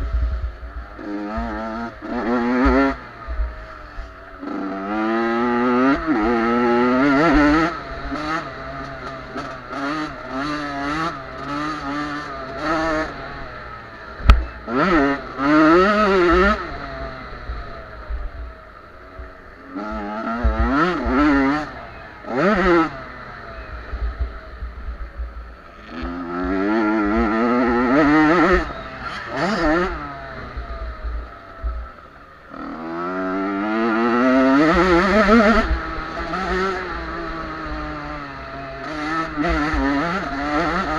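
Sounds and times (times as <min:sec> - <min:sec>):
motocross bikes revving and passing: 0:00.0 - 0:40.9.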